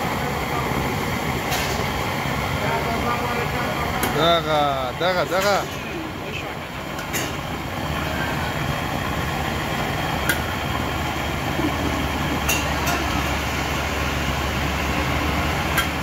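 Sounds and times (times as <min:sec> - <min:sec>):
gas burner rushing: 0:00.0 - 0:16.0.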